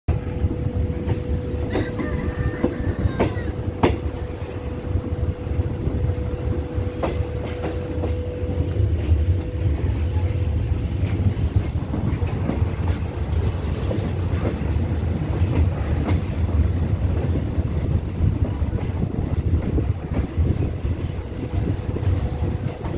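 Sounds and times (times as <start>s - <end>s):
train carriage rumble: 0.1s - 22.9s
wheels clacking over rail joints: 0.6s - 4.7s, 6.5s - 22.9s.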